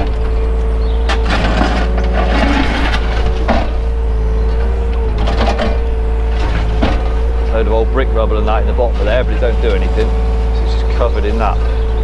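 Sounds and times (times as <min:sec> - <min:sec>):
excavator clunks: 0:00.0 - 0:12.0
excavator engine and hydraulics: 0:00.0 - 0:12.0.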